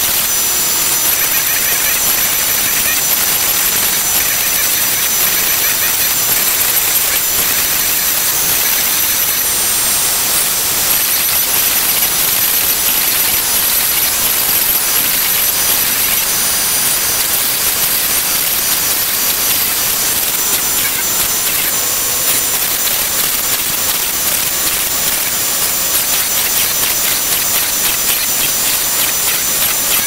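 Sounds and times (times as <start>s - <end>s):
router bit cutting plywood: 0.0s - 30.0s
router spindle whining: 0.0s - 30.0s.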